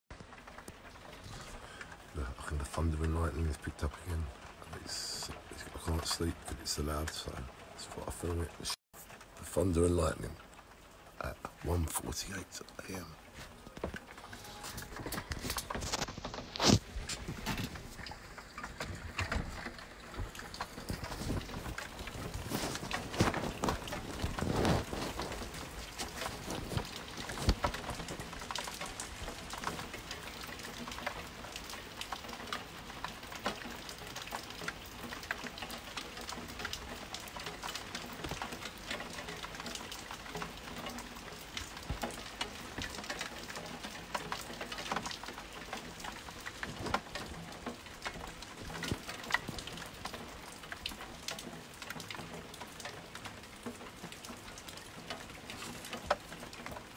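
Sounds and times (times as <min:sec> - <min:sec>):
heavy rain on hard surfaces: 0:00.1 - 0:56.9.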